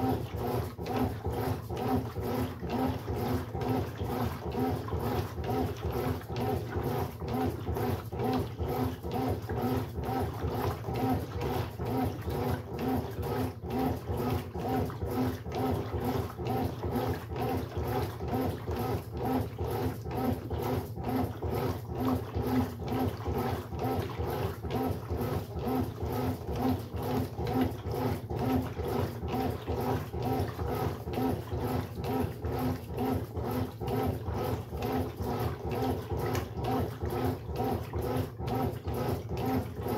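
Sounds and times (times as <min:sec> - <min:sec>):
washing machine churning: 0:00.0 - 0:39.9.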